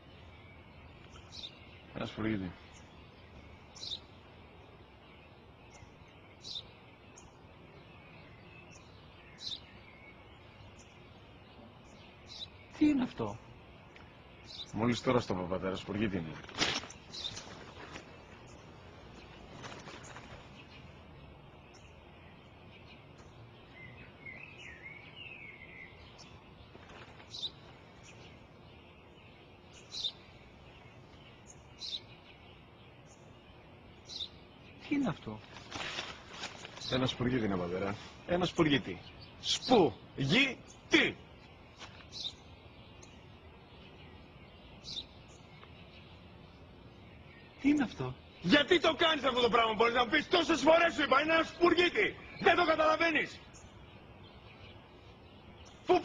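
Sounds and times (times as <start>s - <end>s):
faint outdoor hiss: 0.0s - 56.0s
sparrow chirping: 0.0s - 56.0s.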